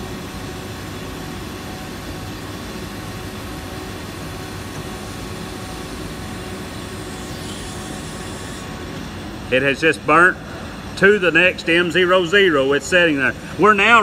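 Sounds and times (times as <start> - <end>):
machine humming and hissing: 0.0 - 14.0.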